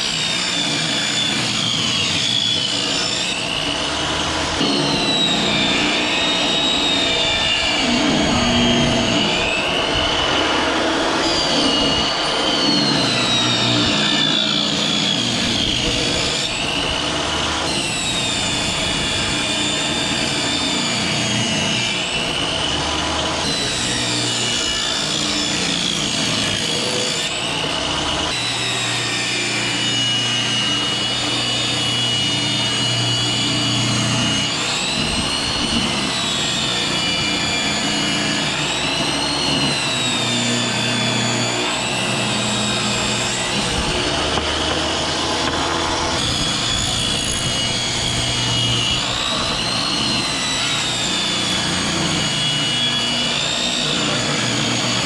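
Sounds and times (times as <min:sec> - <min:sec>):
table saw cutting wood: 0:00.0 - 0:55.0.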